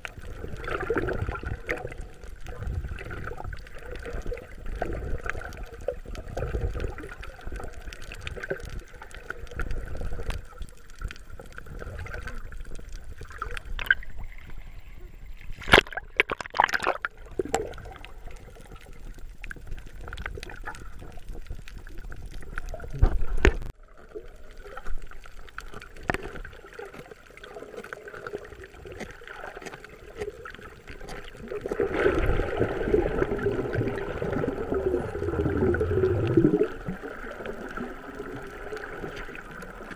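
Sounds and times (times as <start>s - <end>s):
muffled water sloshing underwater: 0.0s - 39.9s.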